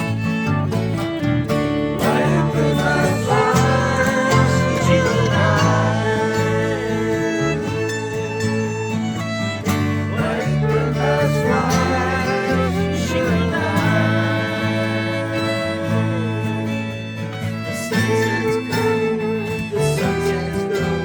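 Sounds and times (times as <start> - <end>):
fiddle: 0.0 - 21.0
plucked guitar: 0.0 - 21.0
person singing: 2.0 - 9.0, 10.1 - 17.0, 17.7 - 21.0.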